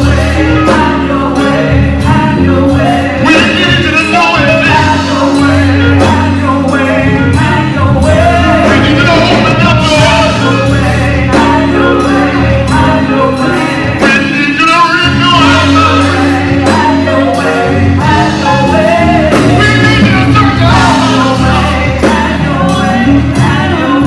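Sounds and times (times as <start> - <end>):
band with electric guitars: 0.0 - 24.0
singers on microphones: 0.0 - 24.0.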